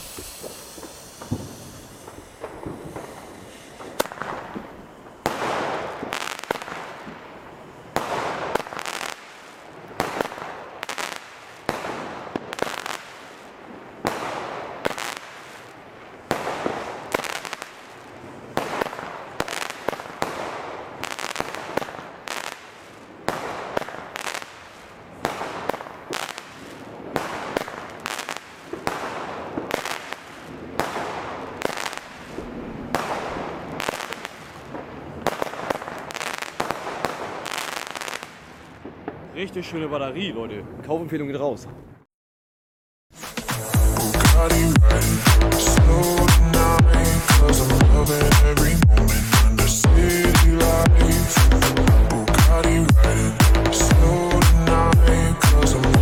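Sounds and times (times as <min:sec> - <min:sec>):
firework battery shots bursting: 0:00.0 - 0:39.2, 0:43.2 - 0:56.0.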